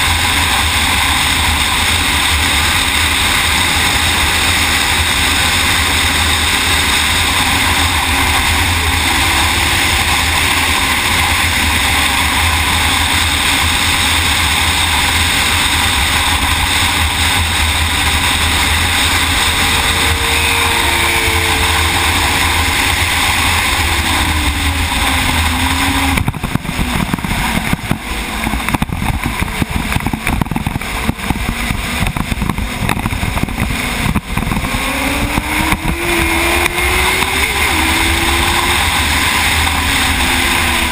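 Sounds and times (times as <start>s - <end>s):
motorcycle engine revving: 0.0s - 40.9s
wind rush: 0.0s - 40.9s.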